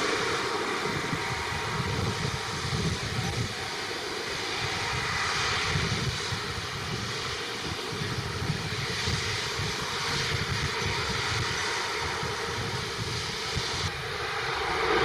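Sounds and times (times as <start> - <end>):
distant jet engines: 0.0 - 15.0.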